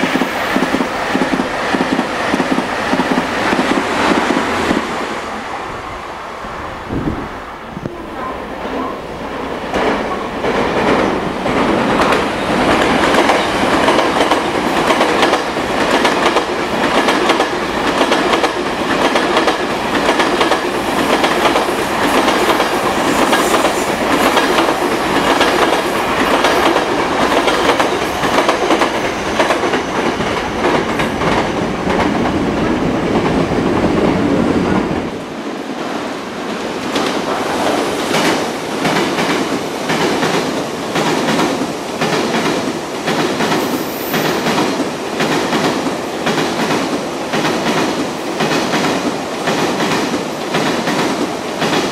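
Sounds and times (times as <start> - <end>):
train wheels clattering over rails: 0.0 - 5.2, 8.6 - 35.0, 35.7 - 51.9.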